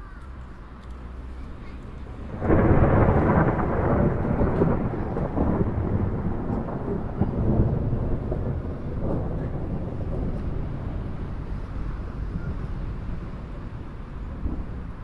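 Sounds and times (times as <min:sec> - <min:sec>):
thunderclap rolling rumble: 0:01.5 - 0:15.0.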